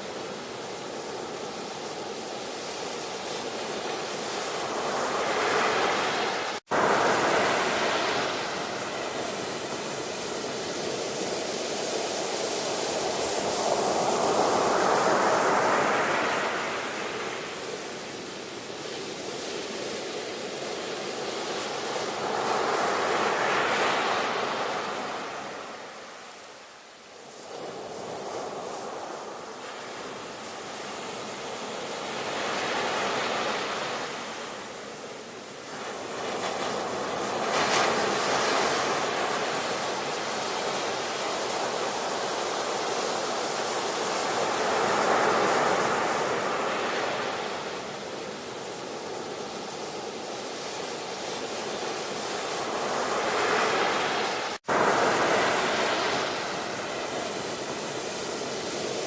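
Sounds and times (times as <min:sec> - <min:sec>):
steady hiss of water: 0:00.0 - 0:59.0
waves breaking and washing in: 0:00.0 - 0:59.0.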